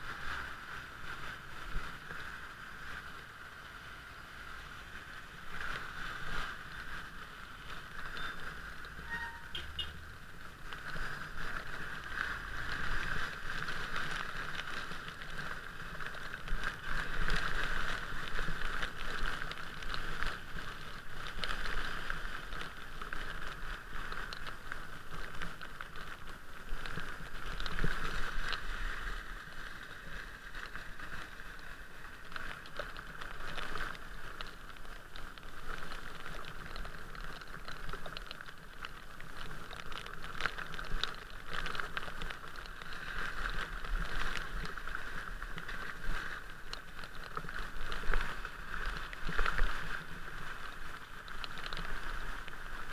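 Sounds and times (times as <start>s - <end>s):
rain and wind: 0.0s - 52.9s
raindrops ticking on camera: 0.0s - 52.9s
tyres on wet pavement: 0.0s - 52.9s.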